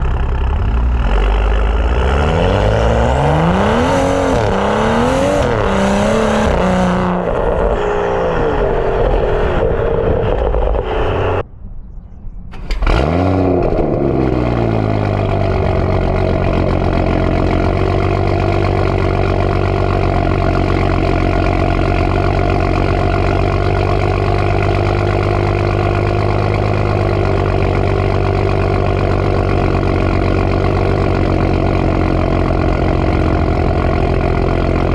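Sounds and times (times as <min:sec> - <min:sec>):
car engine revving: 0:00.0 - 0:11.5, 0:12.5 - 0:34.9
car engine idling: 0:00.0 - 0:34.9.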